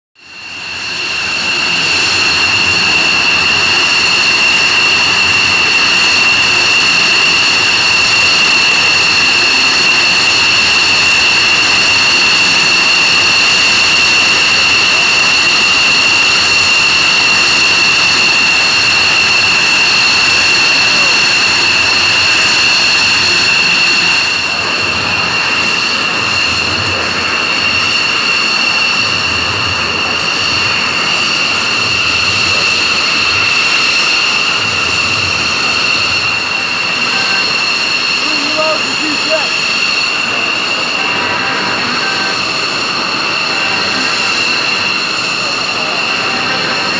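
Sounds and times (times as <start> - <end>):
jet engines whining: 0.2 - 46.9.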